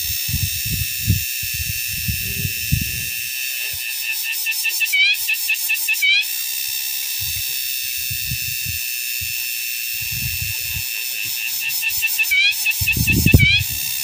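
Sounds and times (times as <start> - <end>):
insects droning: 0.0 - 14.0
thin steady tone: 0.0 - 14.0.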